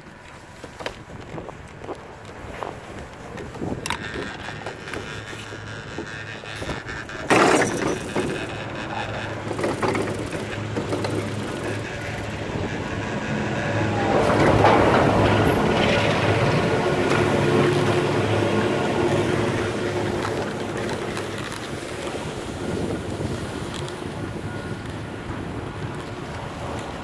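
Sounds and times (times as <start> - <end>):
chairlift mechanical hum: 0.0 - 27.0
loud rumble at lift tower: 3.3 - 26.6.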